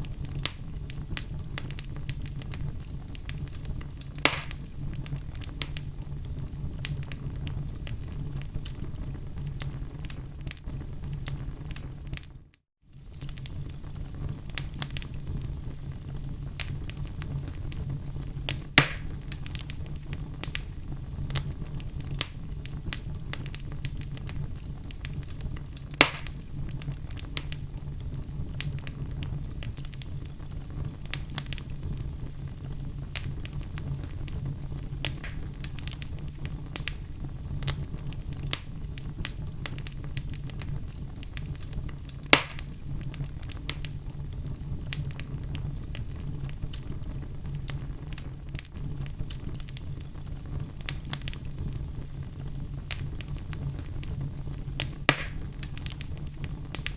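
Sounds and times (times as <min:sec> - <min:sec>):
fire rumbling and crackling: 0:00.0 - 0:56.9
loud fire pops: 0:00.0 - 0:56.9.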